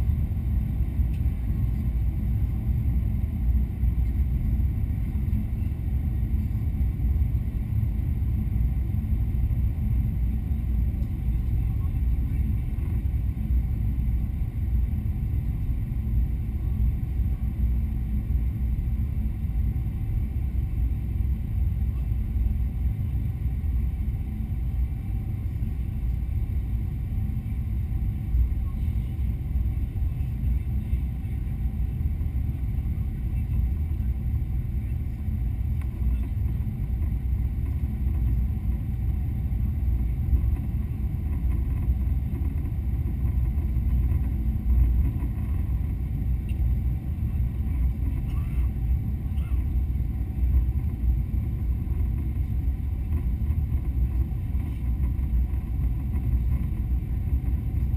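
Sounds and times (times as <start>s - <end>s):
airplane cabin rumble: 0.0s - 57.9s.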